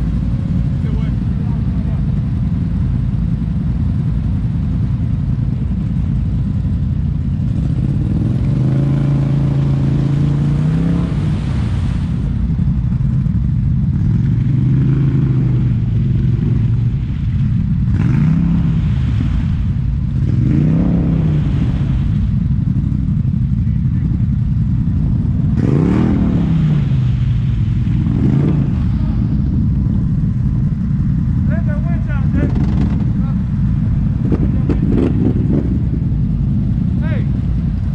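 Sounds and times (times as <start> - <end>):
atv engine revving: 0.0 - 37.9.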